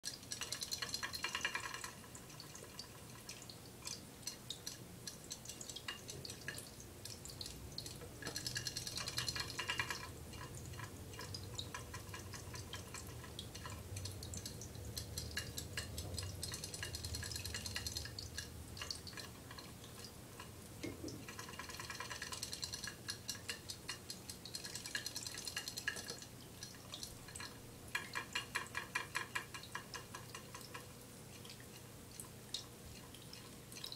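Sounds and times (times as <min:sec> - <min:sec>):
low steady hum: 0:00.0 - 0:33.9
small splashes and ticks in water: 0:00.0 - 0:33.9
water trickling into bowl: 0:00.0 - 0:33.9.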